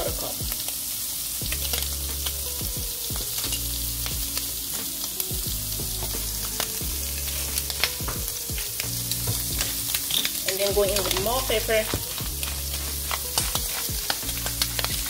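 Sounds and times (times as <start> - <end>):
small crackles and pops: 0.0 - 5.4, 6.1 - 15.0
food sizzling in pans: 0.0 - 15.0.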